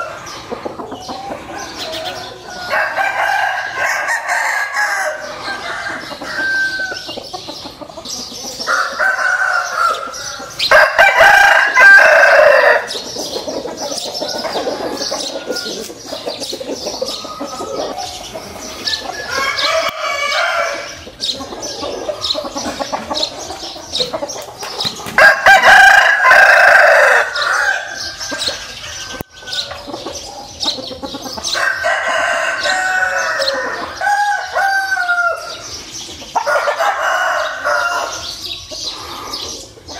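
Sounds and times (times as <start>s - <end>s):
chicken clucking: 0.0s - 39.9s
roosters crowing: 0.0s - 39.9s.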